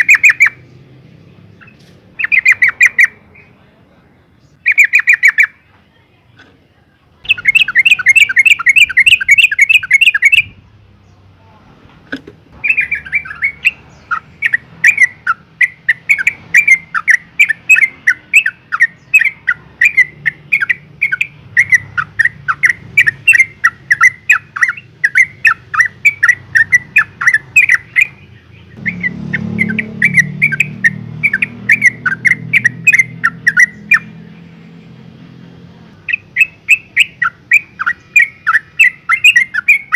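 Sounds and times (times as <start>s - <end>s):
bulbul chattering calls: 0.0s - 3.7s, 4.4s - 5.7s, 7.2s - 10.6s, 12.6s - 34.6s, 35.9s - 39.9s.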